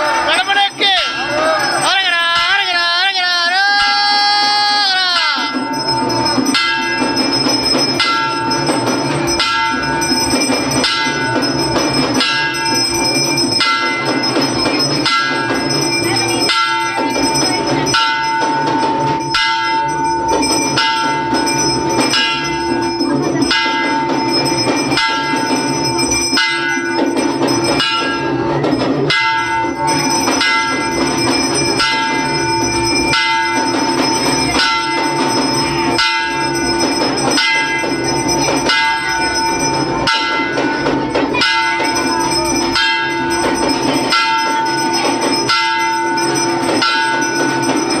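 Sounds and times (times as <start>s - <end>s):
temple bells ringing: 0.0s - 48.0s.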